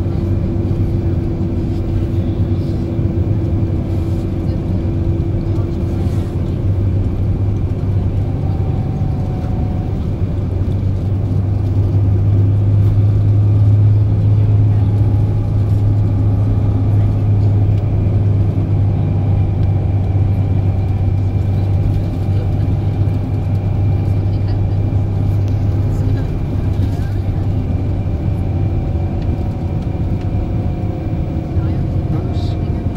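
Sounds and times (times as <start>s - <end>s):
coach engine and road drone: 0.0s - 32.9s.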